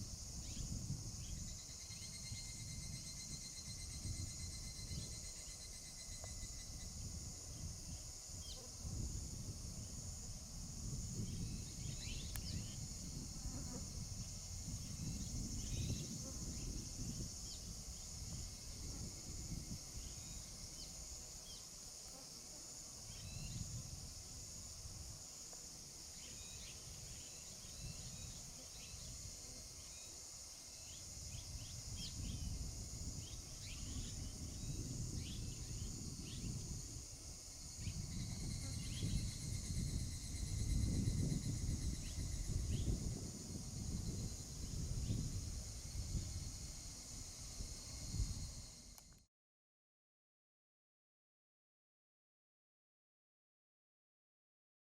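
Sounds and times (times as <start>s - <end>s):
high-pitched insect drone: 0.0s - 49.2s.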